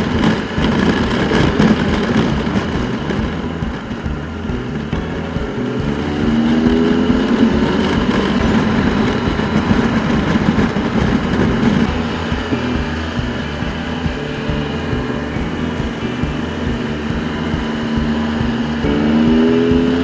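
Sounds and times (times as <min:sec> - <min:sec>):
motorcycle engine: 0:00.0 - 0:20.0
wind and road noise: 0:00.0 - 0:20.0.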